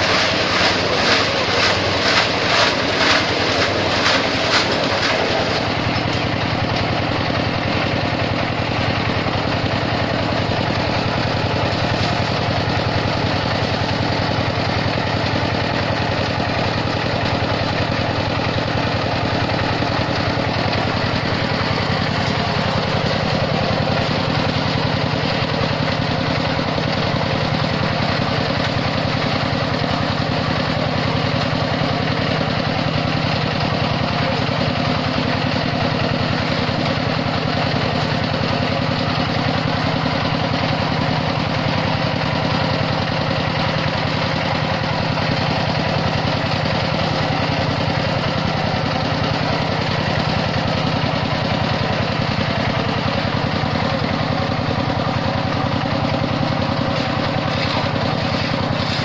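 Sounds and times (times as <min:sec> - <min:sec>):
concrete mixer engine running: 0:00.0 - 0:59.0.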